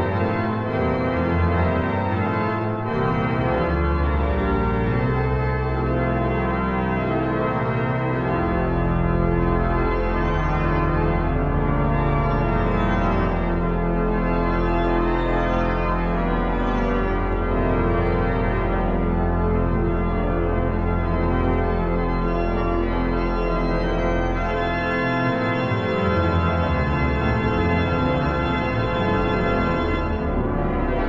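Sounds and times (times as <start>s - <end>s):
deep organ pedal note: 0.0s - 31.0s
pipe organ chords: 0.0s - 31.0s.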